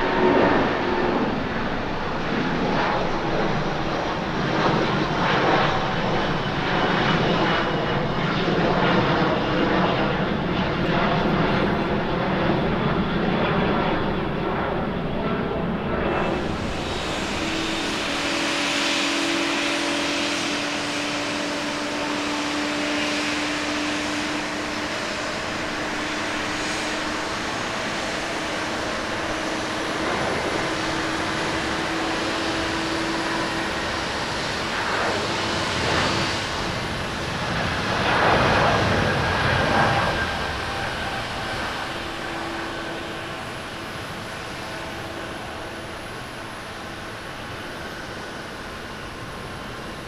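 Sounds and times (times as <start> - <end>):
jet engine roar: 0.0 - 50.0.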